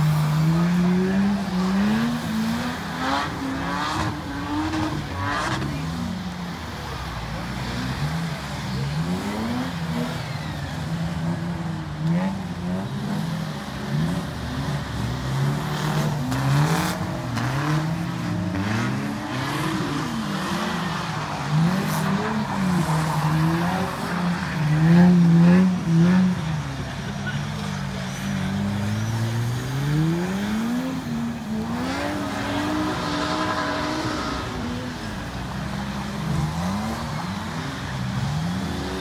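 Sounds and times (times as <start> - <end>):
diesel van engine revving: 0.0 - 39.0.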